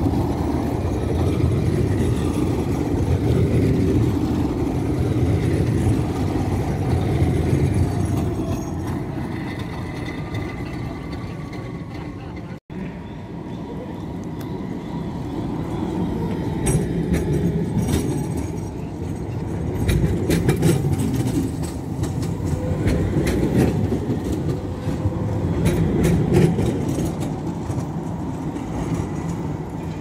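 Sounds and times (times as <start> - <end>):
wheels clicking over rail joints: 0.0 - 12.6, 15.7 - 30.0
tram rumbling past: 0.0 - 30.0.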